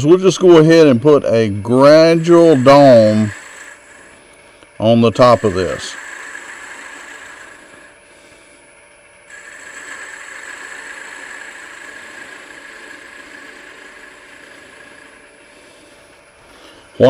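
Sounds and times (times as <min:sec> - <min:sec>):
turning tool cutting wood: 0:00.0 - 0:17.0
wood lathe running: 0:00.0 - 0:17.0.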